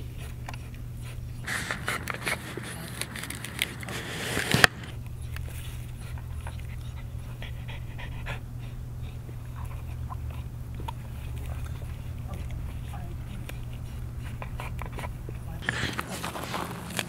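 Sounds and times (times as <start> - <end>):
puppy chewing mesh bag: 0.0 - 17.0
puppy panting: 0.0 - 17.0
steady low hum: 0.0 - 17.0.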